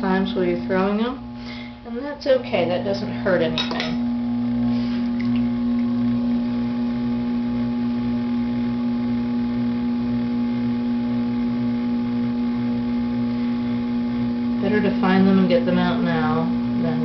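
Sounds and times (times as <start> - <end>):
potter's wheel motor humming: 0.0 - 17.0.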